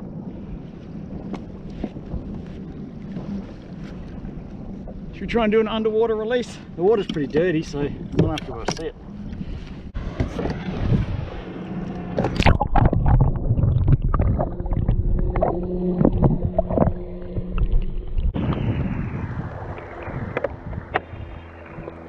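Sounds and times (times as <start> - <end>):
water rushing along kayak hull: 0.0 - 22.0
water splashing and sloshing: 0.0 - 22.0.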